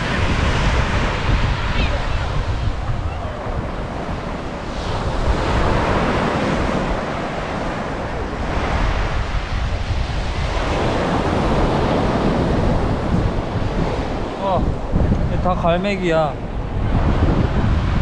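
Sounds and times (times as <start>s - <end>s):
ocean surf breaking: 0.0s - 18.0s
wind rumbling on microphone: 0.0s - 18.0s.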